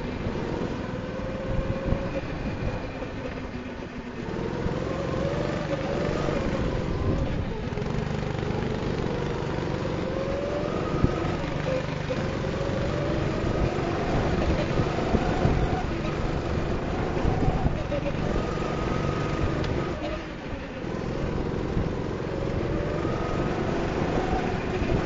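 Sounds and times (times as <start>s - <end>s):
go-kart engine: 0.0s - 25.0s.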